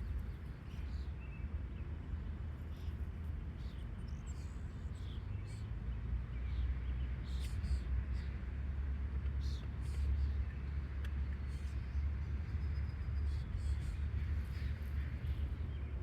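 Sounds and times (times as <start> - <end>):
small birds chirping: 0.0 - 1.9, 2.6 - 16.0
steady low rumble: 0.0 - 16.0.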